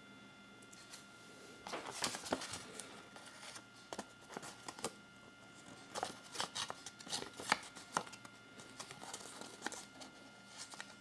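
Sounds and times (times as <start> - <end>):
paper rustling and crinkling: 1.6 - 11.0.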